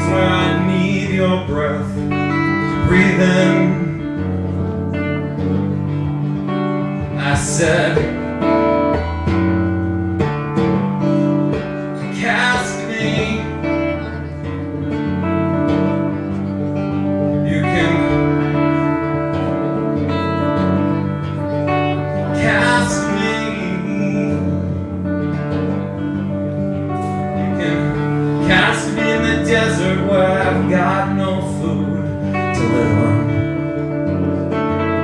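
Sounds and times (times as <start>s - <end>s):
guitar over looped music: 0.0s - 35.0s.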